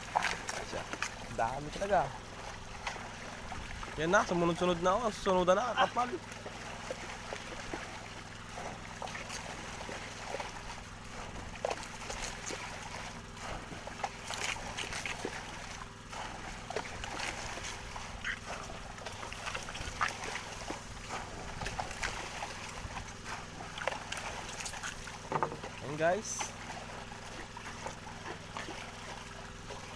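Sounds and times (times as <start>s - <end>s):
steady low hum: 0.0s - 29.9s
water splashing: 0.0s - 29.9s.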